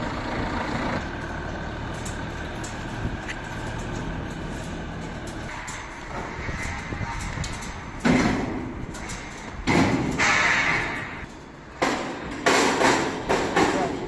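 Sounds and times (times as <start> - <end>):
metal crate clanking and rattling: 1.7 - 14.0.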